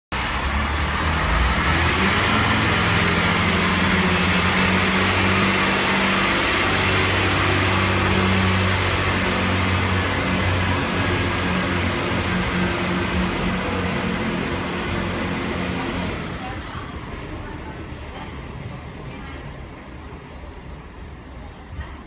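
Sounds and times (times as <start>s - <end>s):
train diesel engines revving: 0.1s - 22.0s.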